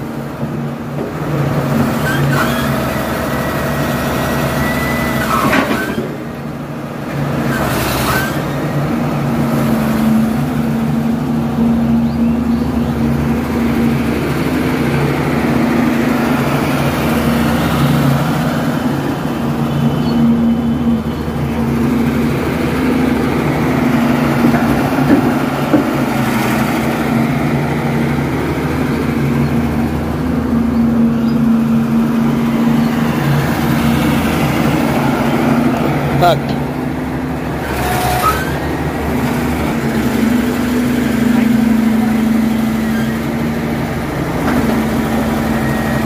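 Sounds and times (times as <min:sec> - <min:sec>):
excavator diesel engine droning: 0:00.0 - 0:46.0.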